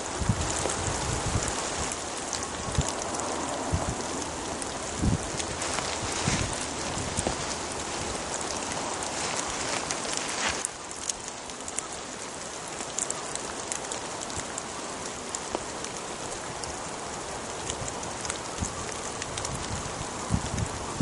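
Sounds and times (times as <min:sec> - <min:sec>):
rain falling on woodland: 0:00.0 - 0:21.0
raindrops ticking: 0:00.0 - 0:21.0.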